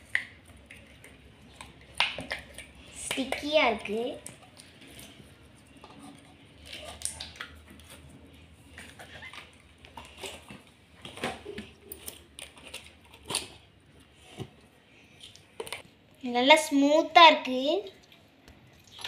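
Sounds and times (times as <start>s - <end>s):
slime squelching: 0.0s - 16.5s, 17.5s - 19.0s.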